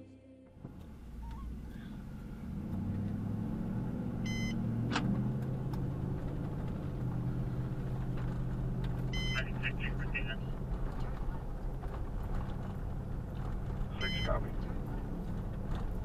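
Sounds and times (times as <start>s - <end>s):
car engine and road noise: 0.4s - 16.0s.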